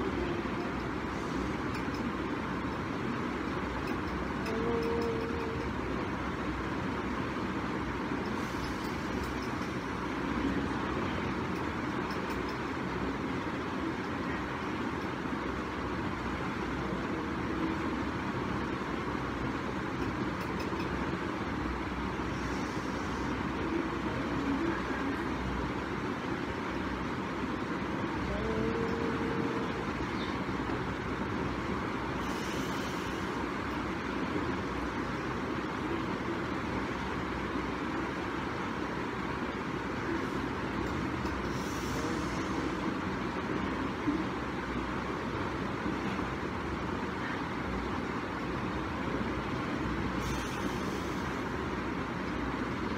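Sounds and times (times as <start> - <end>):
traffic-like background noise: 0.0 - 52.9.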